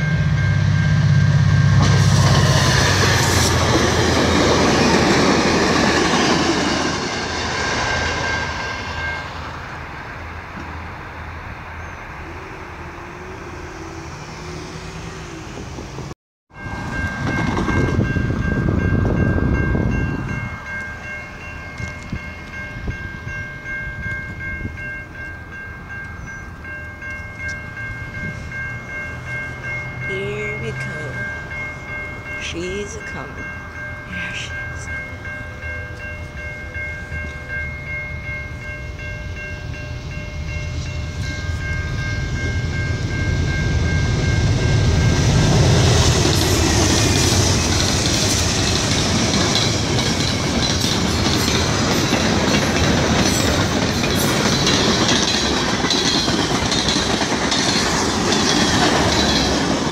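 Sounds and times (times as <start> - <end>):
crossing warning bell ringing: 0.0 - 59.9
train rumbling past: 0.0 - 59.9.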